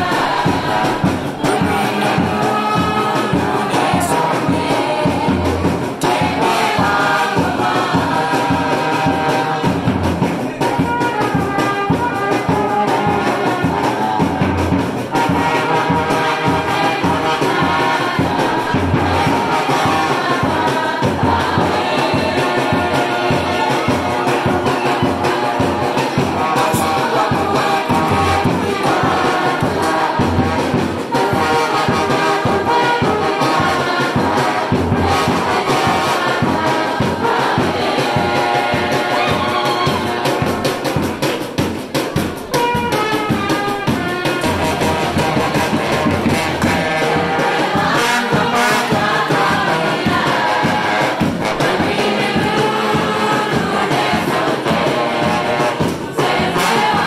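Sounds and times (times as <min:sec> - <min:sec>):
bass drum and snare beat: 0:00.0 - 0:57.0
brass band playing: 0:00.0 - 0:57.0.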